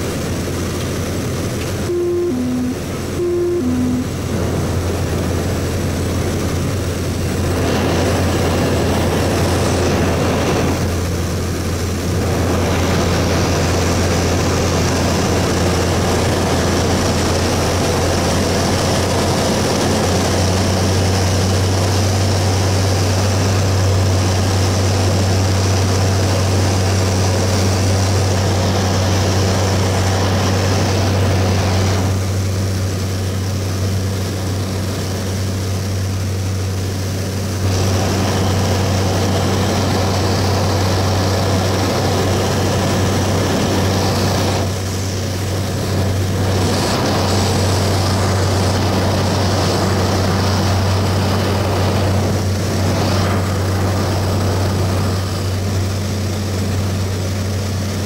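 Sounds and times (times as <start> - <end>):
turboprop engine drone: 0.0 - 58.0.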